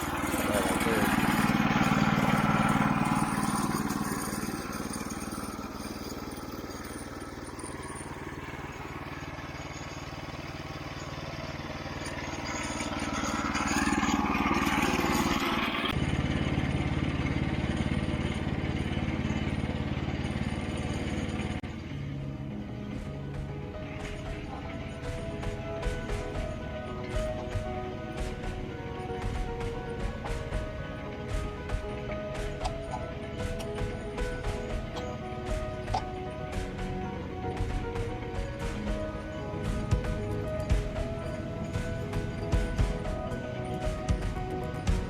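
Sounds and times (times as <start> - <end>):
sawmill engine running: 0.0 - 45.0.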